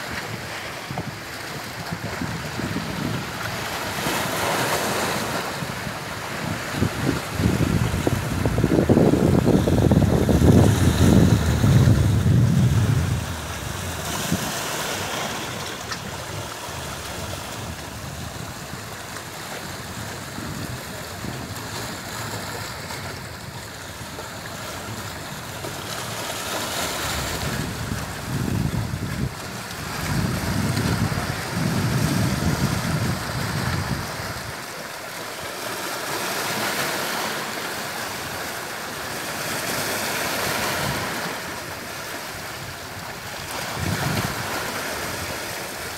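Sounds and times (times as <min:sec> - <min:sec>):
wind rumble on microphone: 0:00.0 - 0:34.8, 0:39.6 - 0:45.9
sea waves washing onto shore: 0:00.0 - 0:45.9.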